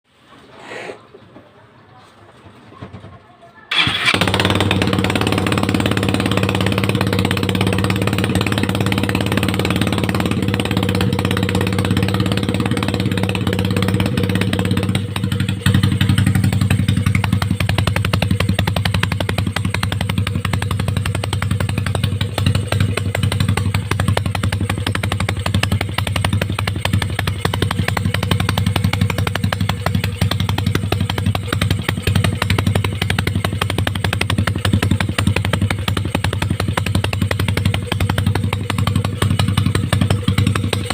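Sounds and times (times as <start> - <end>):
scooter engine idling: 3.7 - 40.9.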